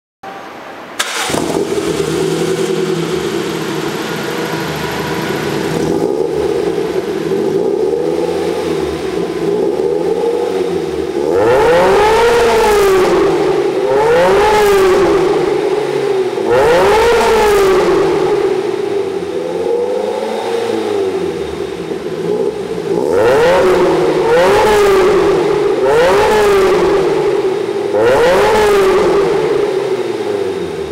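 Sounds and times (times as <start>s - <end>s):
car engine idling and revving: 1.0s - 30.9s.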